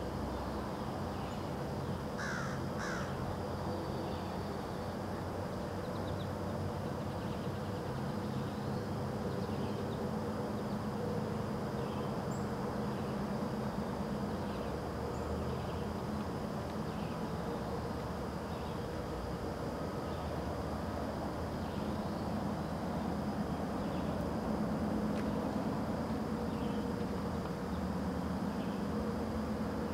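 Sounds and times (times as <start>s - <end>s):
high insect drone: 0.0s - 29.9s.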